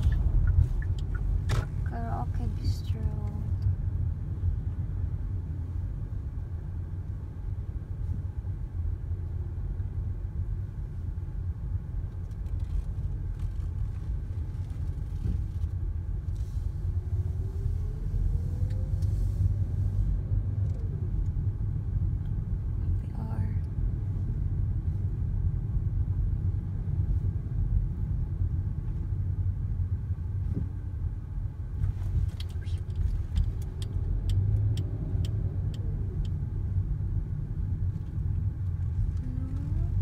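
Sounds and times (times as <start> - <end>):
car road and engine rumble: 0.0 - 40.0.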